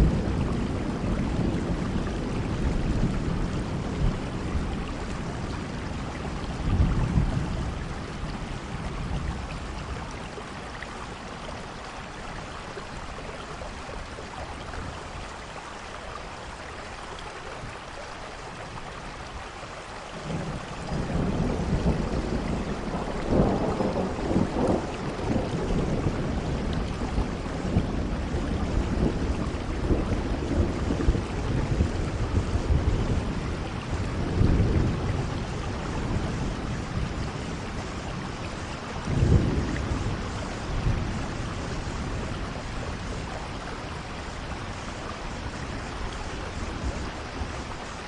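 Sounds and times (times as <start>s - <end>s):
thunder rumbling: 0.0s - 11.5s, 20.2s - 48.0s
steady rainfall: 0.0s - 48.0s.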